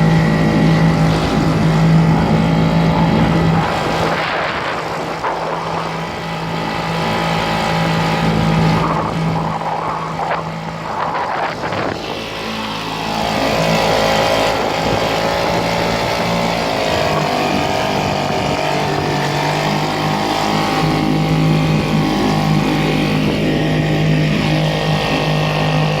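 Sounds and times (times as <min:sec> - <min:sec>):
engine running with wavering hum: 0:00.0 - 0:26.0.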